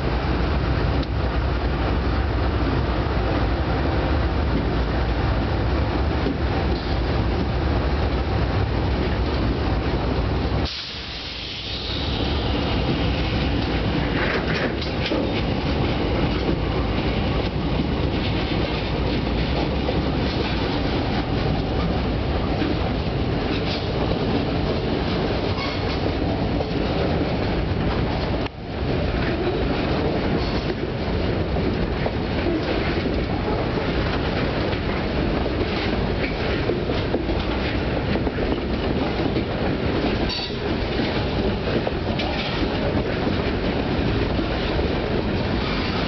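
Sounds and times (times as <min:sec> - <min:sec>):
diesel locomotive rumble: 0:00.0 - 0:46.0
train wheels clickety-clack: 0:00.0 - 0:46.0.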